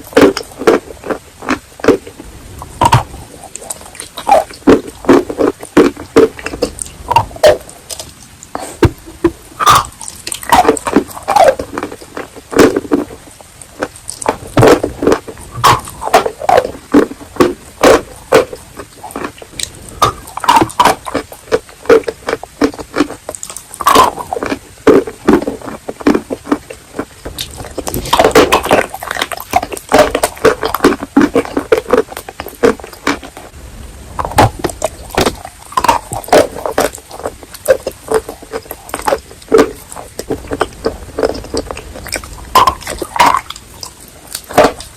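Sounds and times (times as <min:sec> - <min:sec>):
wet mouth clicks: 0:00.0 - 0:33.6, 0:34.2 - 0:44.9.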